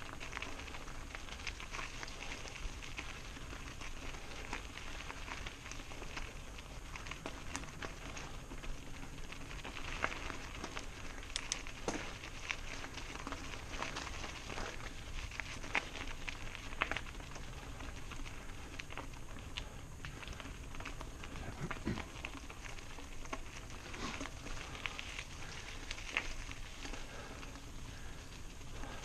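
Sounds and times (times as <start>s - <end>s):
bike clicks and rattles: 0.0s - 29.0s
low wind rumble: 0.0s - 29.0s
tyres crunching on loose stones: 0.0s - 29.0s.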